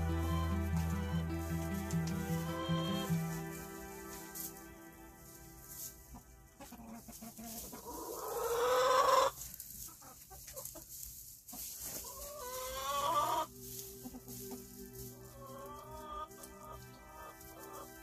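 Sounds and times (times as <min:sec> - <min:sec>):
hens calling: 0:00.0 - 0:10.9, 0:11.5 - 0:18.0.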